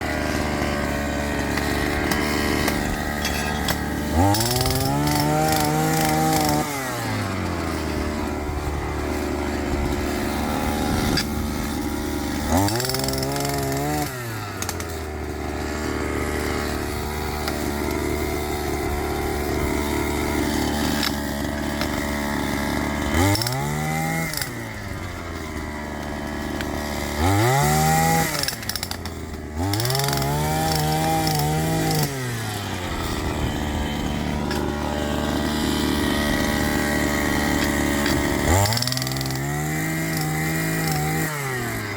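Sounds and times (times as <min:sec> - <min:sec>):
small gasoline engine revving: 0:00.0 - 0:41.9.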